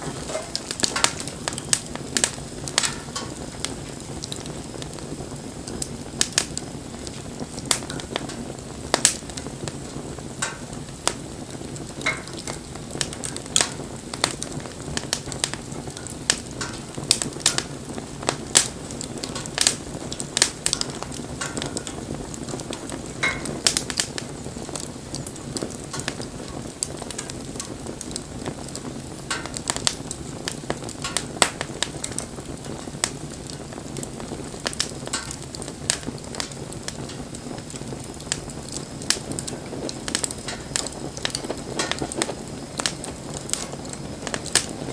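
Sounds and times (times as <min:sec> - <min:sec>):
bonfire crackling and popping: 0:00.0 - 0:44.9
low rush of flames: 0:00.0 - 0:44.9.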